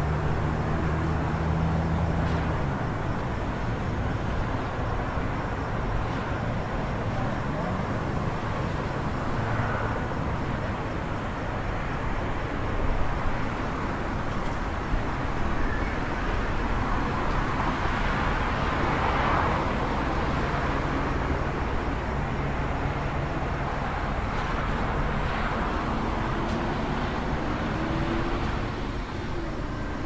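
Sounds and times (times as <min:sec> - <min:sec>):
distant traffic rumble: 0:00.0 - 0:30.0.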